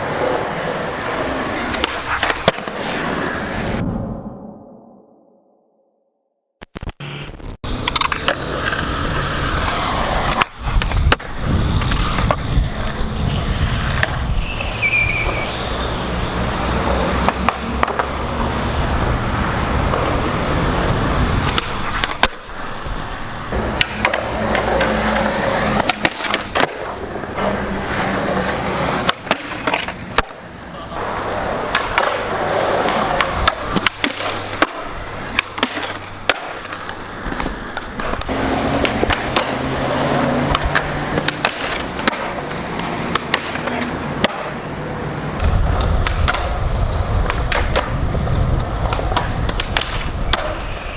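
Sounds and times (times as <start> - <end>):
skateboard deck clacks and pops: 0.0 - 3.8, 7.7 - 15.6, 17.1 - 18.6, 19.7 - 50.9
skateboard wheels rumbling: 0.0 - 3.8, 7.7 - 50.9.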